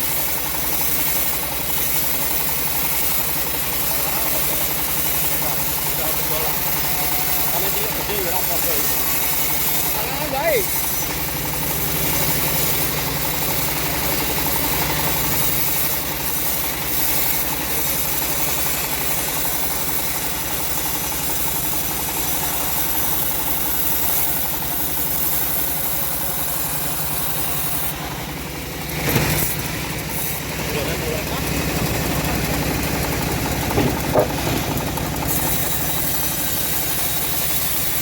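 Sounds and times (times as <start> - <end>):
bandsaw mill engine running: 0.0 - 38.0.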